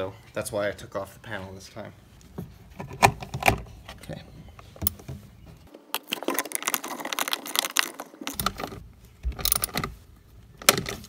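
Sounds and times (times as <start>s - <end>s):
rustling and scraping: 1.3s - 11.0s.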